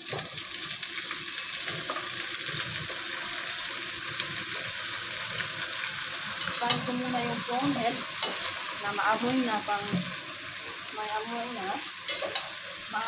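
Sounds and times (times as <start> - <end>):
bones sizzling in hot oil: 0.0 - 13.0.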